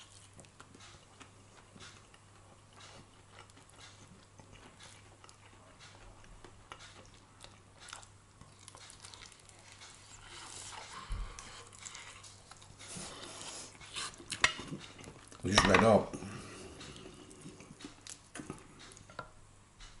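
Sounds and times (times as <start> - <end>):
person chewing crunchy food: 0.0 - 15.4, 16.2 - 19.1.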